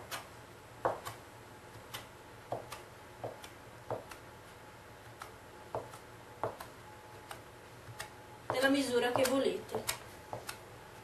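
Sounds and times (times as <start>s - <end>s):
knife chopping dough on wood: 0.0s - 4.4s, 5.0s - 10.7s.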